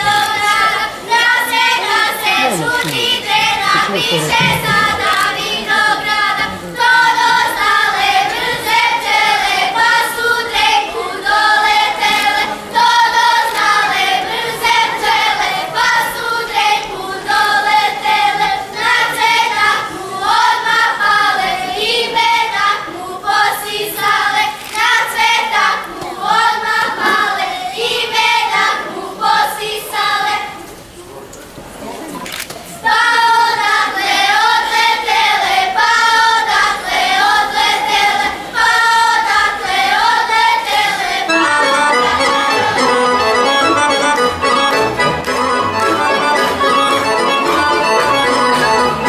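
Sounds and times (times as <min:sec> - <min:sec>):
girls singing folk song: 0:00.0 - 0:30.6, 0:32.8 - 0:42.4.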